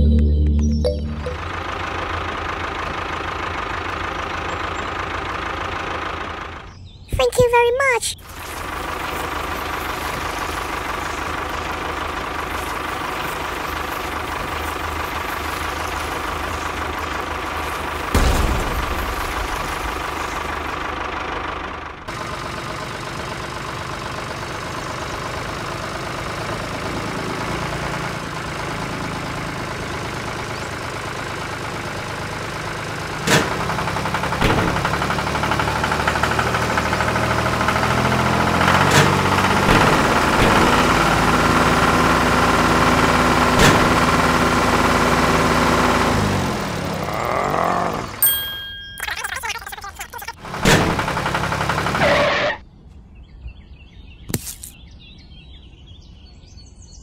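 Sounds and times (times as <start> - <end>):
tractor engine running: 0.0 - 52.6.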